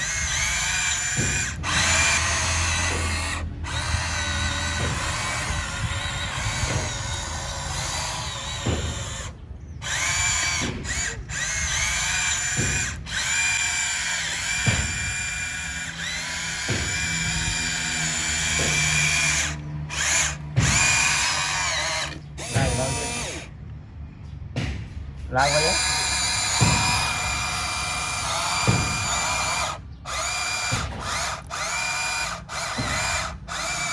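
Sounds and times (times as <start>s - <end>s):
toy electric motors whining: 0.0s - 23.5s, 25.4s - 33.9s.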